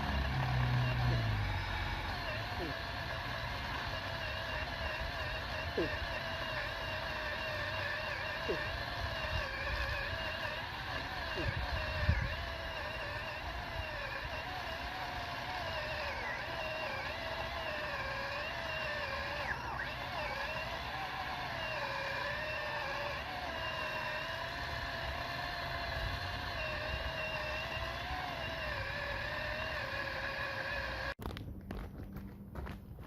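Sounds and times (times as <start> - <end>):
electric pole saw whining: 0.0 - 31.2.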